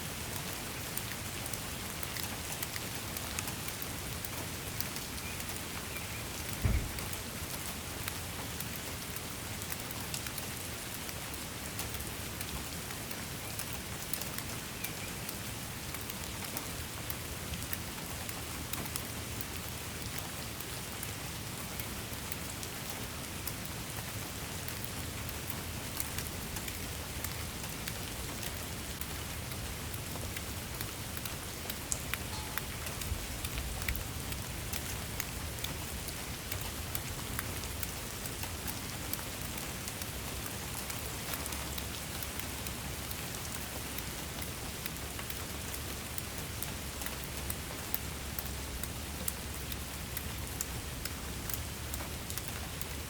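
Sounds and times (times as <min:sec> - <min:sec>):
rain hiss: 0:00.0 - 0:53.0
raindrops ticking: 0:00.2 - 0:53.0.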